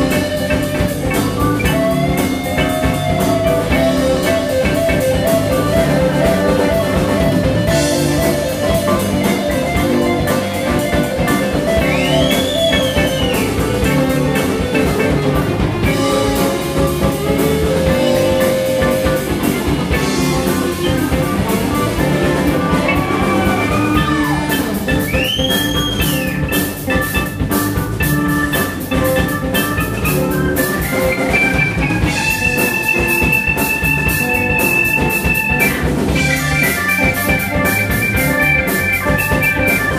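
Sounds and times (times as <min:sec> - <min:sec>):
drum kit: 0:00.0 - 0:39.9
electric guitar lead: 0:00.0 - 0:39.9
keyboard: 0:00.0 - 0:39.9.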